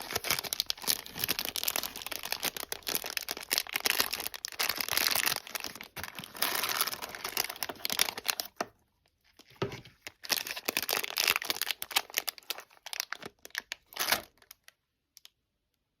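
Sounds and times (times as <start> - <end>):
packaging crinkling: 0.0 - 14.8.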